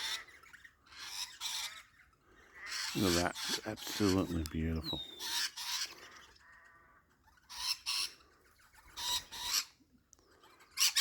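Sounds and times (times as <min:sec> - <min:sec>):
cockatoos screeching: 0:00.0 - 0:11.0.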